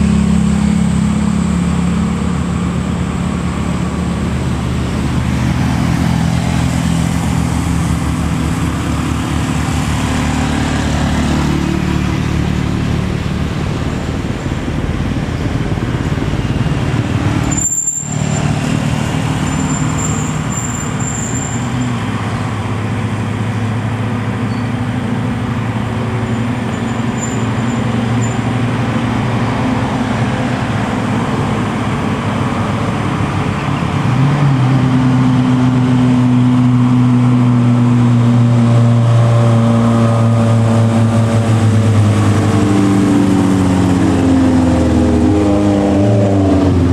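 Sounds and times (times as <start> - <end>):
road traffic noise: 0.0 - 46.9
truck diesel engines under load: 0.0 - 46.9.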